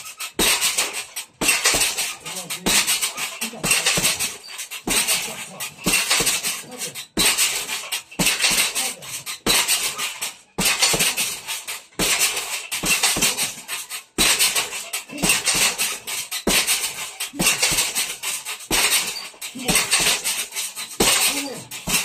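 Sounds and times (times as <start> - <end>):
boxing gloves striking heavy bag: 0.0 - 22.0.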